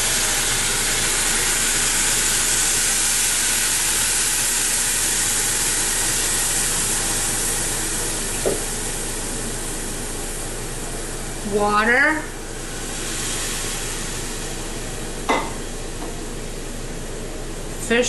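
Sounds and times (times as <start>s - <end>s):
juice sizzling in hot pan: 0.0s - 17.2s.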